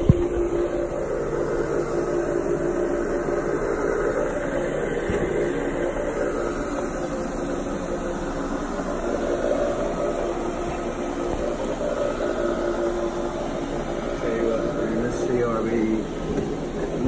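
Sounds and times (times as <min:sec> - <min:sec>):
carpet machine humming: 0:00.0 - 0:17.0.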